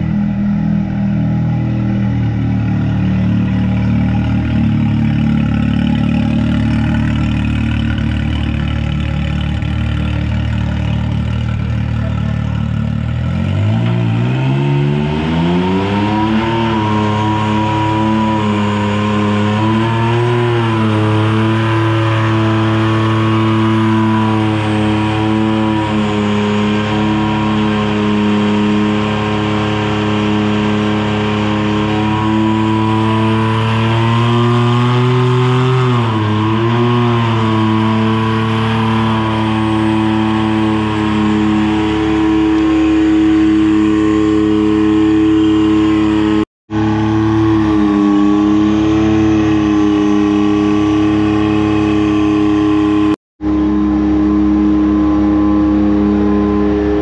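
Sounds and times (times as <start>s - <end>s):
three-cylinder engine running: 0.0s - 57.0s.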